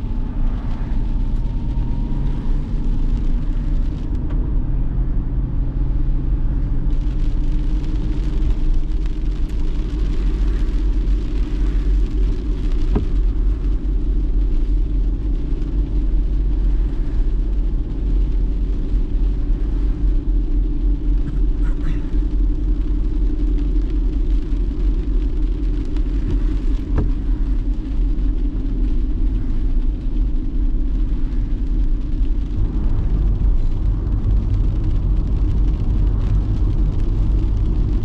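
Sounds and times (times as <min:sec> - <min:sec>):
tyres hissing on wet road: 0:00.0 - 0:04.2, 0:04.9 - 0:38.0
car engine rumble: 0:00.0 - 0:38.0.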